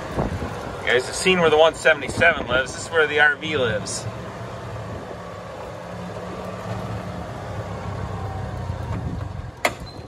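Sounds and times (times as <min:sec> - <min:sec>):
golf cart motor hum: 0:00.0 - 0:10.0.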